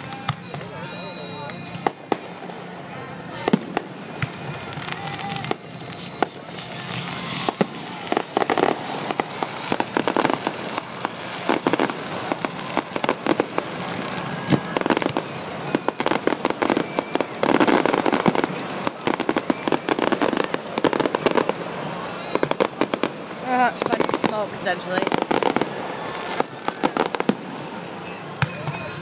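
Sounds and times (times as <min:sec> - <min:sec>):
whistling fireworks: 0:00.0 - 0:29.0.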